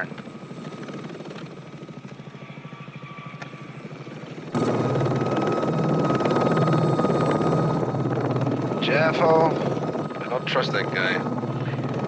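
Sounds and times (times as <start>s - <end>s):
helicopter rotor chop: 0.0s - 12.0s
high turbine whine: 0.0s - 12.0s.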